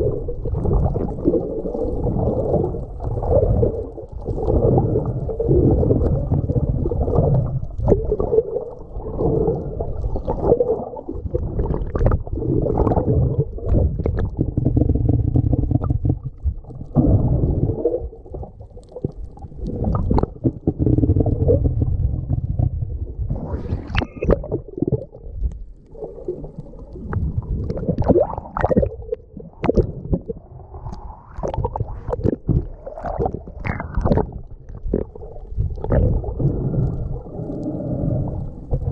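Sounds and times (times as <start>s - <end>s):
underwater moving water rumble: 0.0s - 38.9s.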